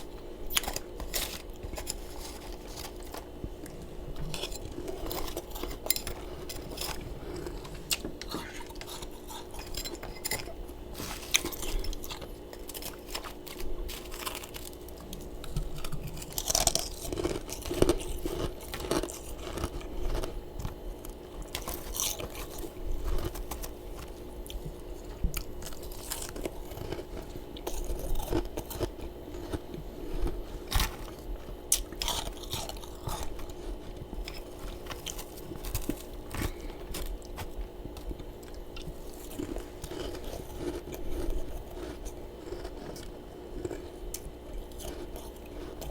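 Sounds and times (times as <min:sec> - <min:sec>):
chewing crunchy frost: 0:00.0 - 0:45.9.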